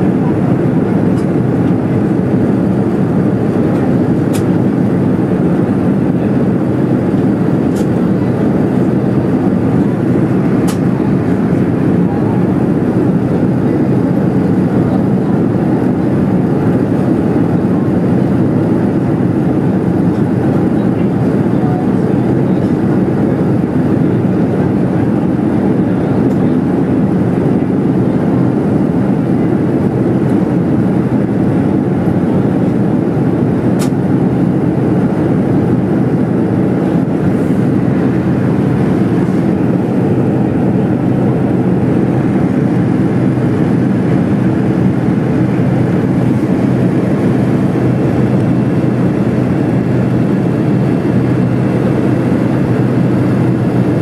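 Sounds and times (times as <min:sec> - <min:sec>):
air rushing over fuselage: 0:00.0 - 0:54.0
jet engine hum: 0:00.0 - 0:54.0.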